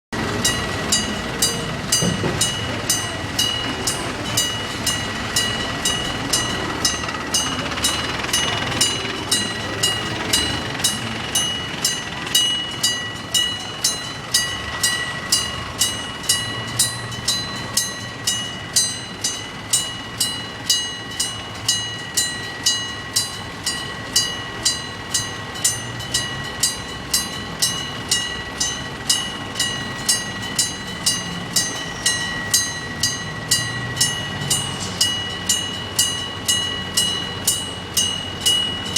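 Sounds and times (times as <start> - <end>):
level crossing bell clanging: 0.2 - 38.9.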